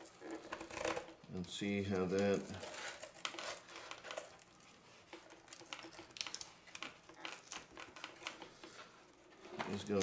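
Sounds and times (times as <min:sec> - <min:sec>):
small handling clicks and rustles: 0:00.0 - 0:10.0.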